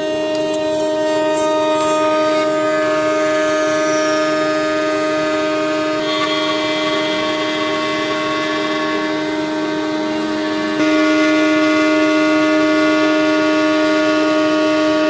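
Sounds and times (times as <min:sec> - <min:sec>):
router spindle high-pitched whine: 0:00.0 - 0:15.0
wood cutting noise: 0:00.0 - 0:15.0.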